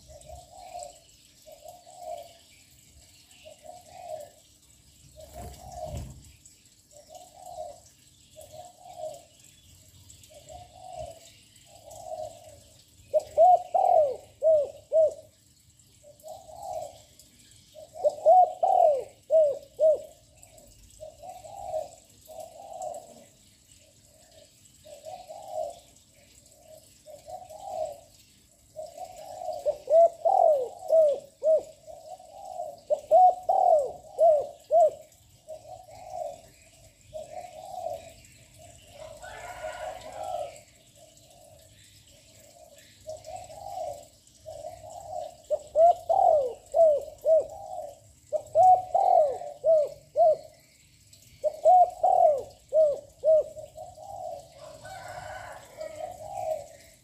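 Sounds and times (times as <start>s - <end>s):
dove cooing: 0.0s - 2.4s, 3.4s - 4.5s, 5.1s - 6.3s, 6.9s - 9.3s, 10.2s - 17.1s, 17.7s - 23.4s, 24.0s - 38.2s, 38.9s - 41.6s, 42.5s - 50.6s, 51.4s - 57.0s.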